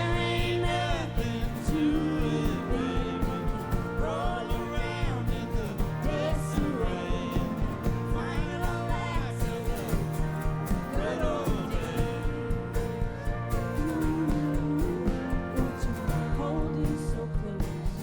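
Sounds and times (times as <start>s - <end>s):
guitars: 0.0s - 18.0s
steady drum beat: 0.0s - 18.0s
woman singing: 0.0s - 18.0s.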